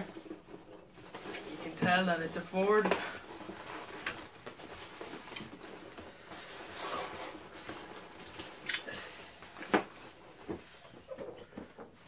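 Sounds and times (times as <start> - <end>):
packing peanuts and plastic rustling: 0.0 - 11.0.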